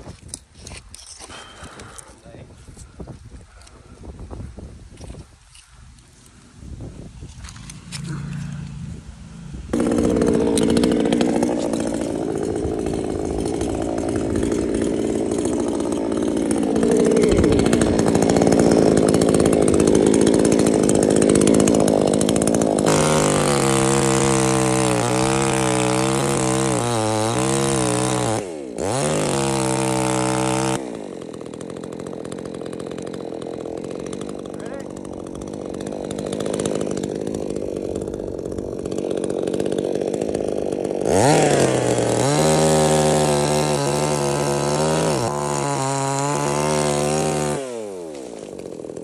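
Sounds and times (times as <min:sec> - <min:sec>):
chainsaw cutting at high revs: 0:00.0 - 0:04.2, 0:04.9 - 0:49.0.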